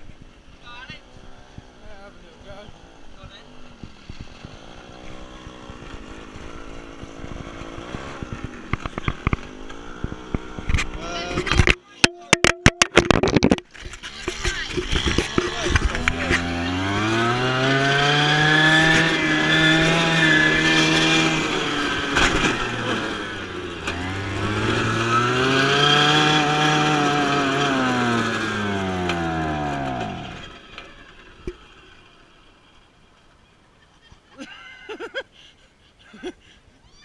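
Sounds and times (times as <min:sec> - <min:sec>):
two-stroke engine revving: 0:00.9 - 0:11.8, 0:13.8 - 0:33.0.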